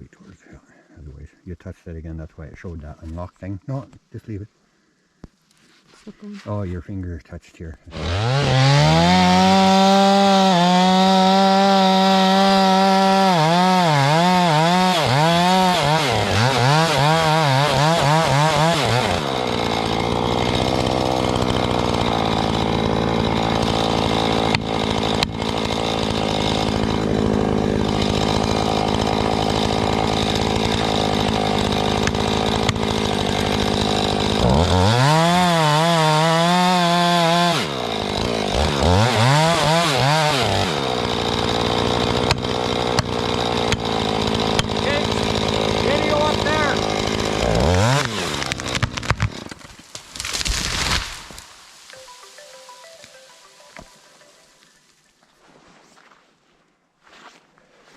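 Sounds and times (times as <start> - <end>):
electric chainsaw cutting wood: 7.9 - 54.8.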